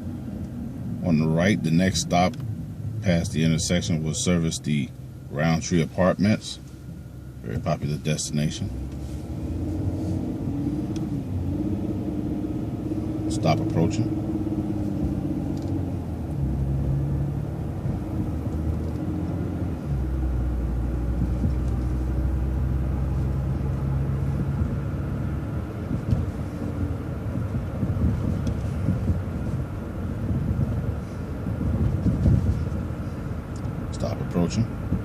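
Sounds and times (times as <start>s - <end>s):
road rumble: 0.0s - 35.0s
vehicle engine hum: 0.0s - 35.0s.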